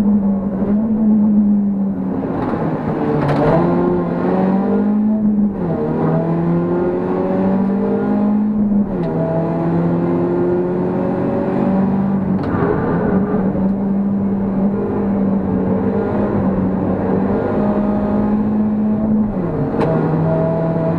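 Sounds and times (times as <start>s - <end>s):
car engine pulling hard: 0.0s - 20.9s.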